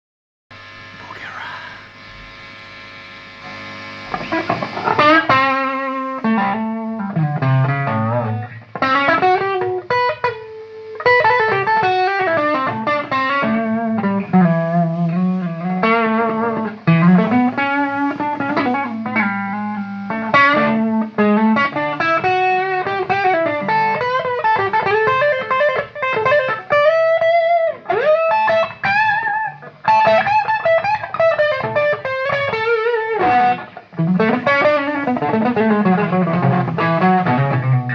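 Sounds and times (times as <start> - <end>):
overdriven electric guitar lead: 0.6 - 37.9.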